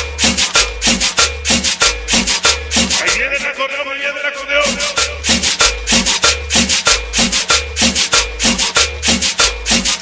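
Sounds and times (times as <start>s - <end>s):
guiro scraping rhythm: 0.0s - 10.0s
repeating bass line: 0.0s - 10.0s.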